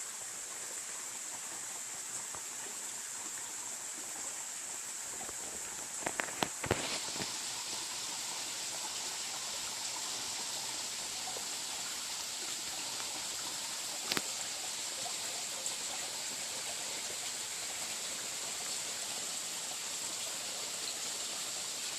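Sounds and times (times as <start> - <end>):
stream rushing over rocks: 0.0 - 21.9.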